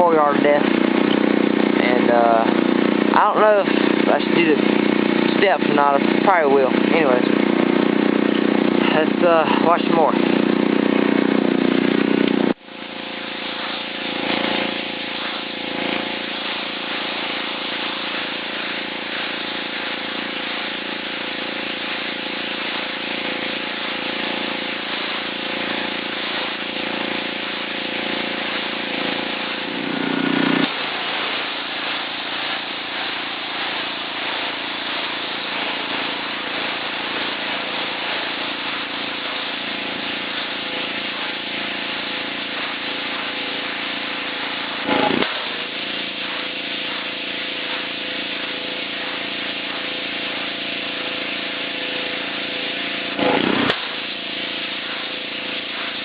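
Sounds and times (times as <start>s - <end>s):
pressure washer engine running: 0.0s - 56.0s
water jet hissing on concrete: 0.0s - 56.0s.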